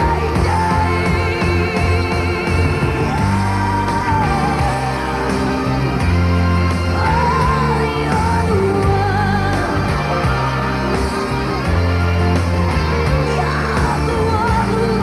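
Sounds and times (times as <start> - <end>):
woman singing with vibrato: 0.0 - 11.0, 13.0 - 15.0
pop-rock band playing: 0.0 - 15.0.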